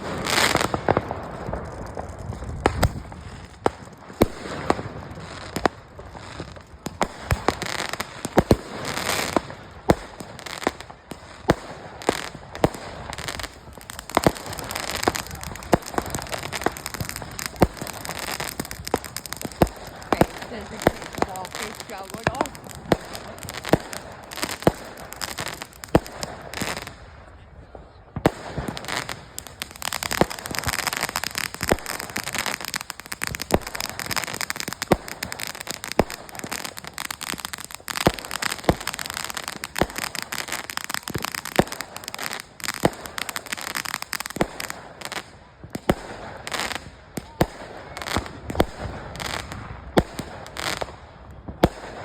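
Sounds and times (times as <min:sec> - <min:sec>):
fireworks bangs: 0:00.0 - 0:52.0
fireworks crackling: 0:00.0 - 0:52.0.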